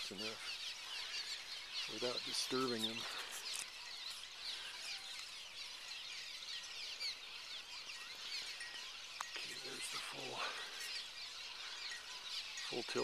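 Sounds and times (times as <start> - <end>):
swallows chirping: 0.0 - 13.0.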